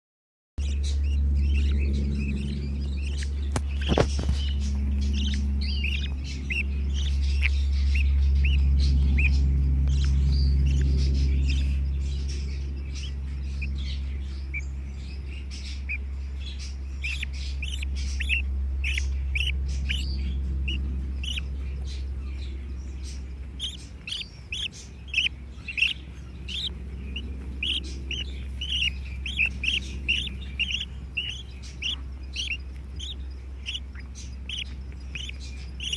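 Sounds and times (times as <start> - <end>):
budgerigar chicks chirping: 0.6 - 35.9
steady low hum: 0.6 - 35.9.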